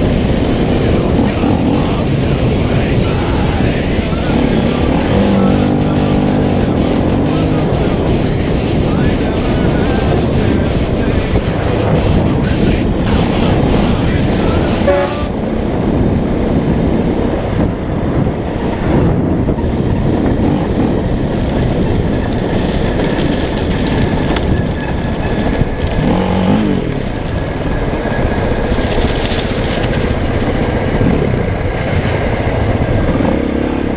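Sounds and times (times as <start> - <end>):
dirt bike riding on gravel: 0.0 - 17.3, 17.9 - 33.9
train running on track: 0.0 - 33.9.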